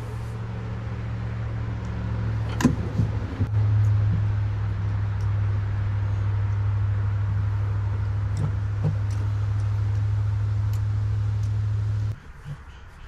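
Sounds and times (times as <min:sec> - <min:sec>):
vehicle mechanical hum: 0:00.0 - 0:13.0.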